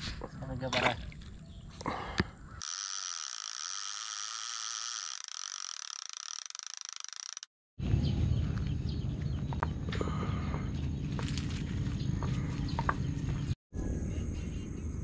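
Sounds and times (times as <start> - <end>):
outdoor field sound: 0.0 - 15.0.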